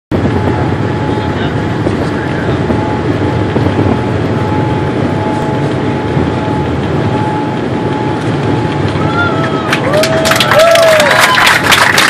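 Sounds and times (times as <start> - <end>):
faint steady whine: 0.1 - 12.0
jet cabin rumble: 0.1 - 12.0.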